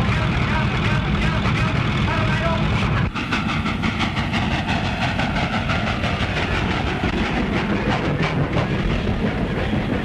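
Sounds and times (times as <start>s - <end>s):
train wheels clattering over rail joints: 0.0s - 10.0s.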